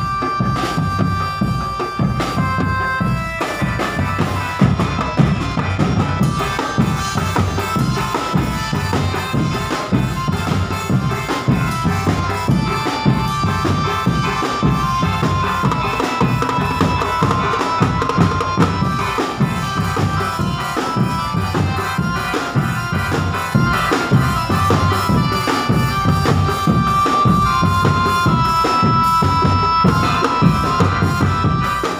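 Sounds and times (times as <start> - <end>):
bass drum and snare beats: 0.0 - 31.9
drumband playing: 0.0 - 31.9
high held melody line: 0.0 - 31.9.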